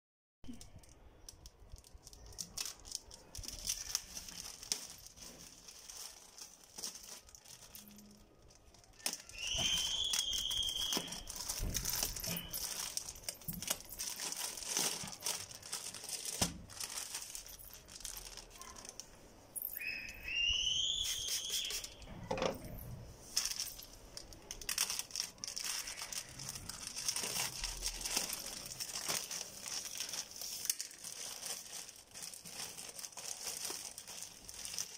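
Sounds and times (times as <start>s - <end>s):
plastic bag crinkling: 0.5s - 34.9s.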